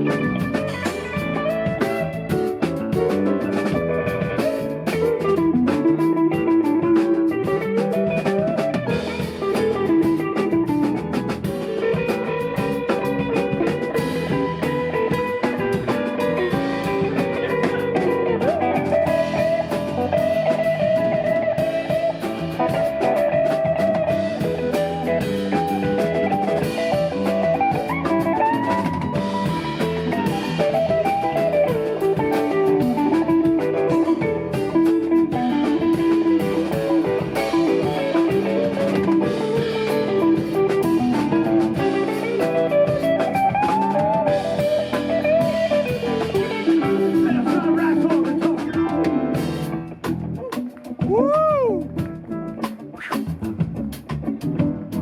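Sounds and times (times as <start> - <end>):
bass guitar: 0.0 - 55.0
drums: 0.0 - 55.0
lead guitar bending notes: 0.0 - 55.0.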